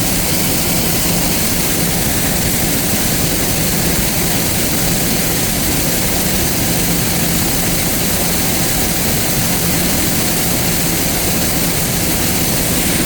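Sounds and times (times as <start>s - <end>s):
silage blowing machinery rush: 0.0s - 13.0s.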